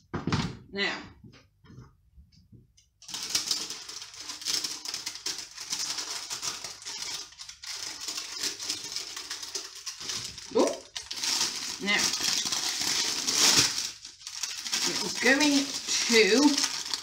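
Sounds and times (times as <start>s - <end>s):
baking paper crinkling: 3.0s - 17.0s.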